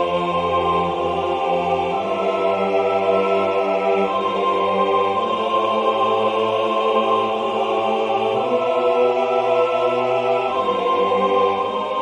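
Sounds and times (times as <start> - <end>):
choir singing chords: 0.0 - 12.0.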